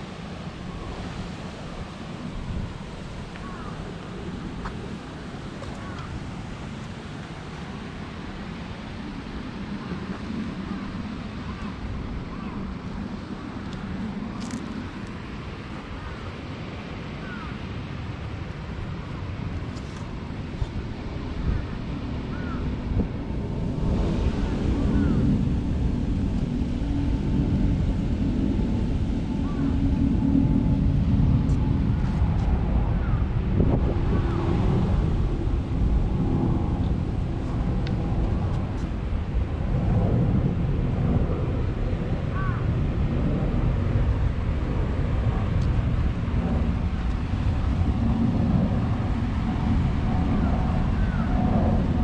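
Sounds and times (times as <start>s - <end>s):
wind noise on microphone: 0.0s - 52.0s.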